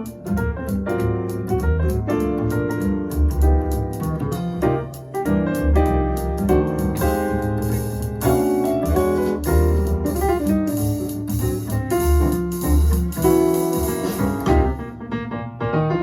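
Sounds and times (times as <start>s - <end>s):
double bass line: 0.0s - 15.0s
jazz piano: 0.0s - 16.0s.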